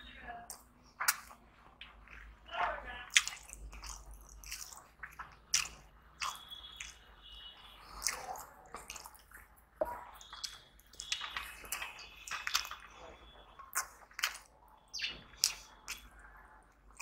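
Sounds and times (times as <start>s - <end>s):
man chewing wetly: 0.5s - 2.4s, 3.1s - 17.0s.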